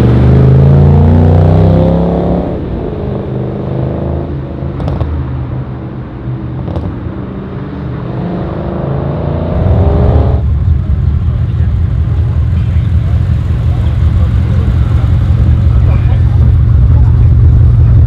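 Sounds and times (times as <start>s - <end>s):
car engine pulling away: 0.0s - 18.0s.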